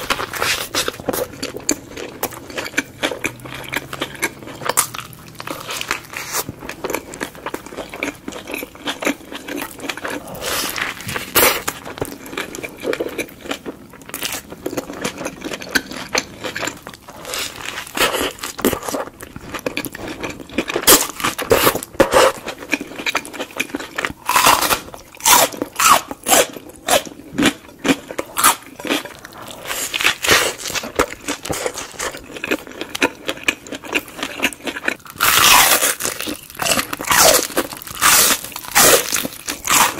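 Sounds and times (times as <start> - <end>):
biting and chewing a burger: 0.0 - 39.9.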